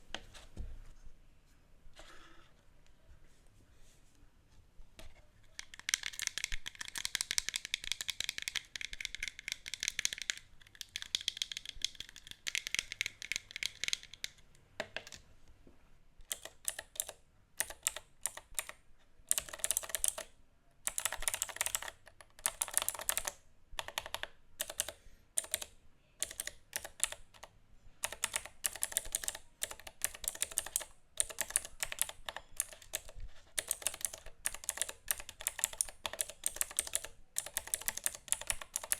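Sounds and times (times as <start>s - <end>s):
keyboard typing: 5.6s - 15.2s, 16.3s - 38.9s.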